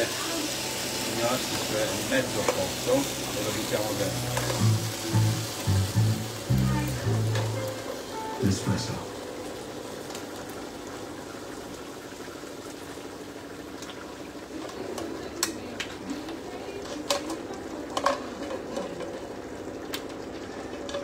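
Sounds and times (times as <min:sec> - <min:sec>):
pot bubbling: 0:00.0 - 0:21.0.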